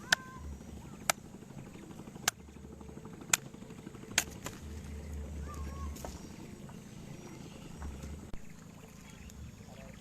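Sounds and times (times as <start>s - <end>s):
faint low rumble: 0.0s - 10.0s.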